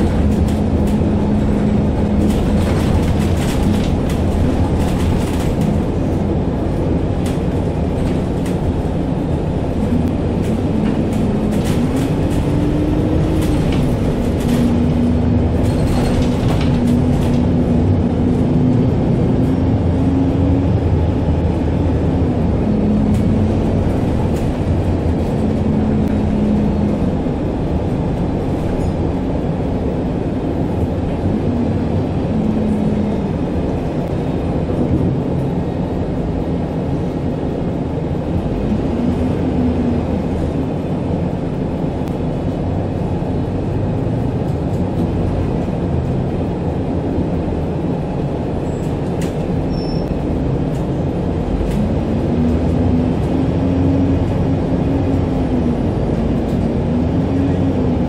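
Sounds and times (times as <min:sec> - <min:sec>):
bus drivetrain rumble: 0:00.0 - 0:58.0.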